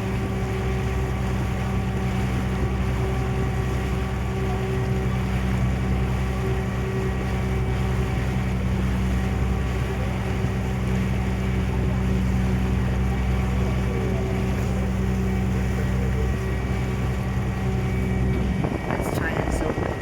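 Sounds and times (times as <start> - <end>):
ferry engine humming: 0.0 - 20.0.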